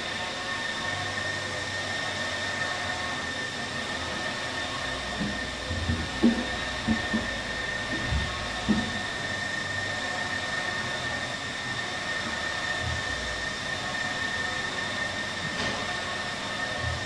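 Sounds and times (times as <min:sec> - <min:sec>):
printer fans and blowers droning: 0:00.0 - 0:17.0
thin high whine: 0:00.0 - 0:17.0.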